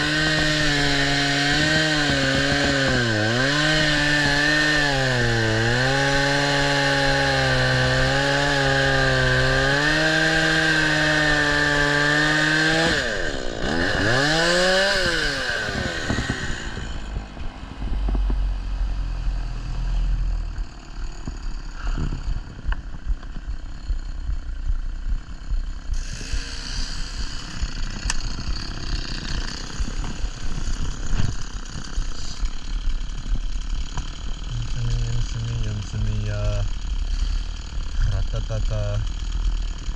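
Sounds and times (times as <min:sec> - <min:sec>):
chainsaw cutting: 0:00.0 - 0:17.4, 0:19.8 - 0:39.9.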